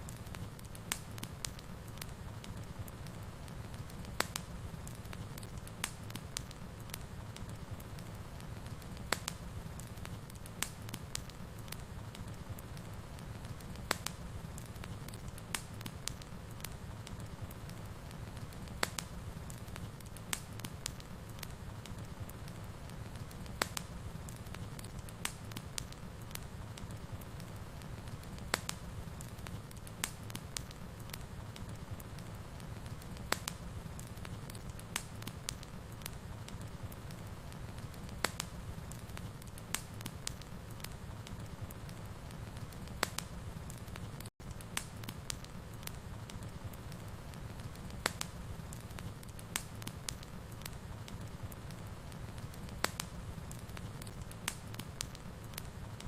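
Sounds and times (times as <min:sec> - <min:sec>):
fire popping and crackling: 0:00.0 - 0:56.0
wood fire burning: 0:00.0 - 0:56.0.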